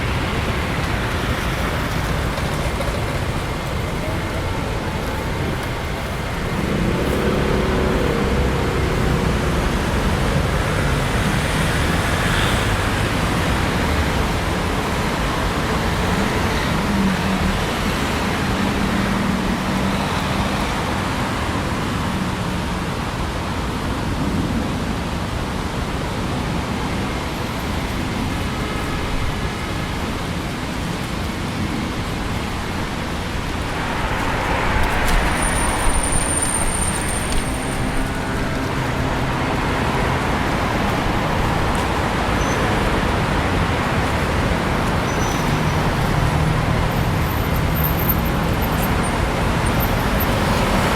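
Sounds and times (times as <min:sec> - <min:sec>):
cars passing: 0:00.0 - 0:50.9.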